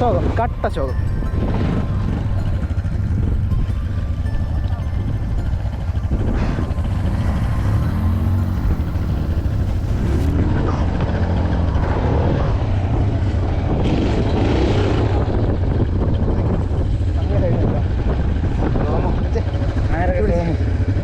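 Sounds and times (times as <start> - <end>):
low rumble: 0.0 - 21.0
off-road vehicle engine revving: 0.0 - 21.0.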